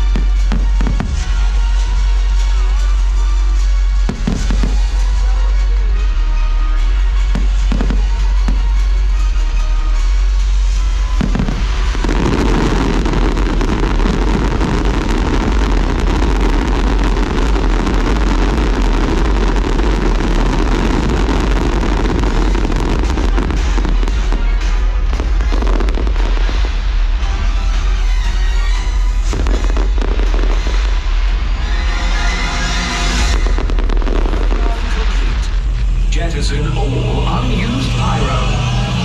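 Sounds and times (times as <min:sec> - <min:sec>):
fireworks crackling and bursting: 0:00.0 - 0:39.0
loud show music: 0:00.0 - 0:39.0.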